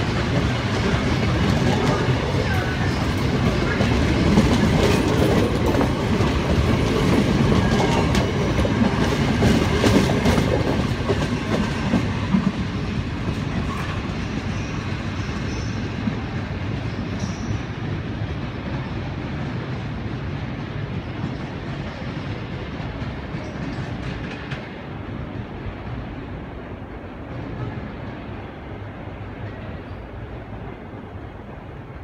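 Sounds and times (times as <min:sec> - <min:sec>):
electric train rolling past: 0:00.0 - 0:32.0.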